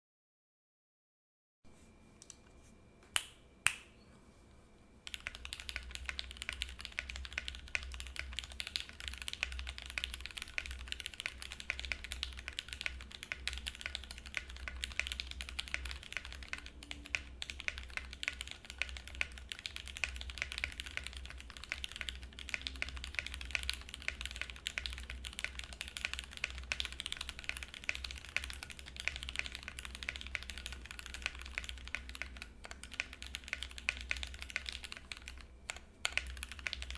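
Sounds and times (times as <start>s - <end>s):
mechanical keyboard typing: 5.0s - 36.9s.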